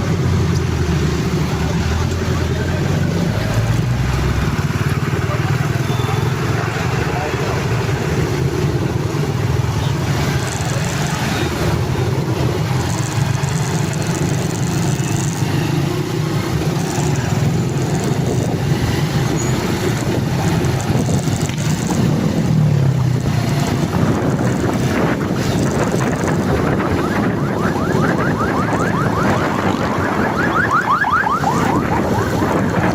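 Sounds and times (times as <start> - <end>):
rush of noise: 0.0 - 32.9
vehicle engine humming: 0.0 - 32.9.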